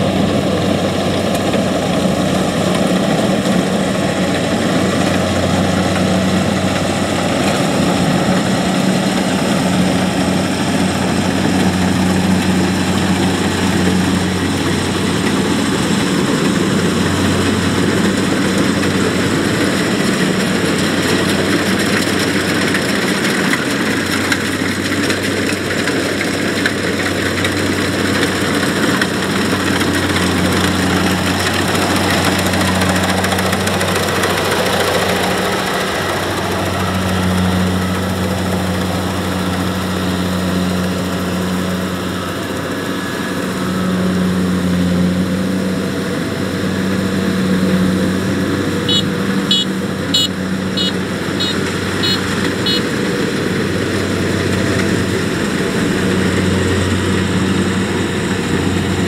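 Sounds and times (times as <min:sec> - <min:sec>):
engine humming: 0:00.0 - 0:59.0
harvester mechanical rush: 0:00.0 - 0:59.0.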